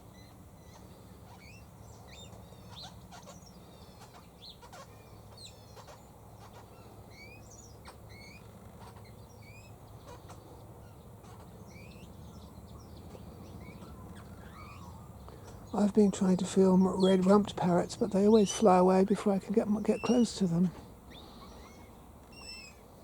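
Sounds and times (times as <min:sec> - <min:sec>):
birds chirping and whistling: 0:00.2 - 0:16.3, 0:19.8 - 0:22.8.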